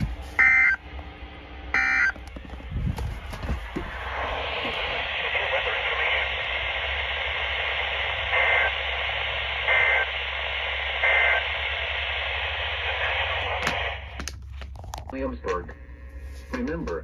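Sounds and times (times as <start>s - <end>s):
radio static hiss: 1.7s - 14.3s, 15.0s - 17.0s.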